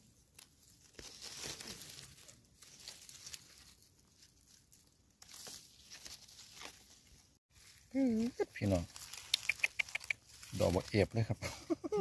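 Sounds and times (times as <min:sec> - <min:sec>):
dry leaves rustling: 0:00.0 - 0:12.0.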